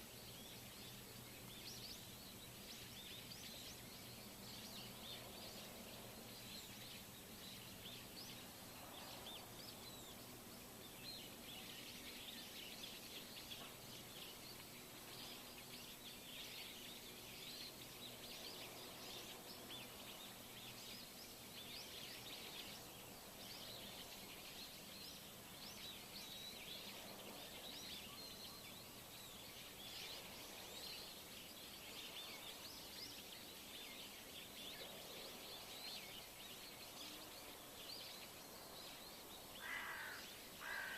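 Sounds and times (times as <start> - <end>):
faint outdoor hiss: 0.0 - 40.9
small birds chirping: 0.0 - 40.9.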